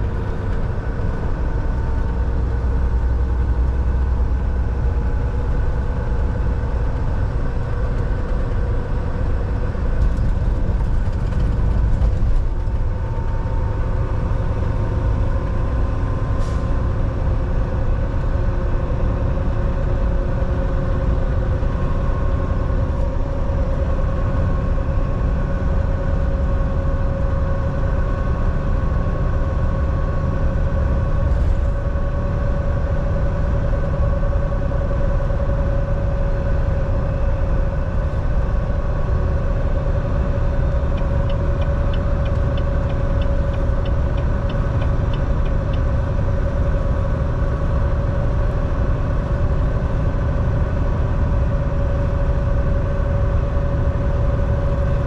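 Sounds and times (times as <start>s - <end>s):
road rumble: 0.0s - 55.0s
truck engine drone: 0.0s - 55.0s.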